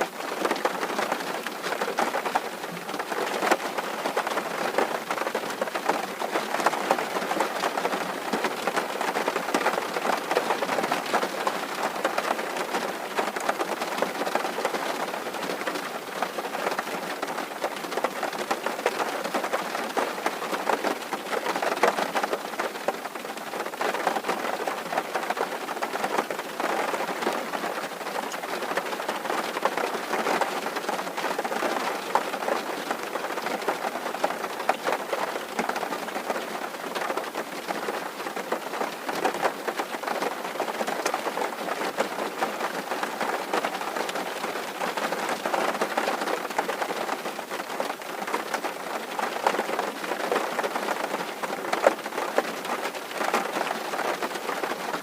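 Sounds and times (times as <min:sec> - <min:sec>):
rain drumming on a tin roof: 0:00.0 - 0:55.0.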